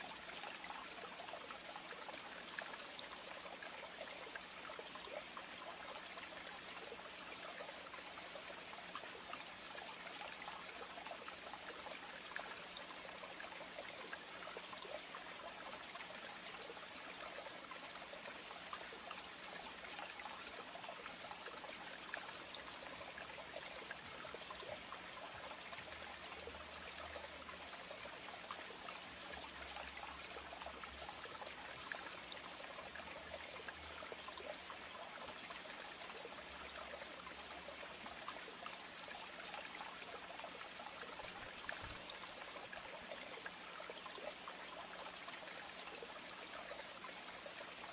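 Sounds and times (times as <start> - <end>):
water trickling: 0.0 - 47.9.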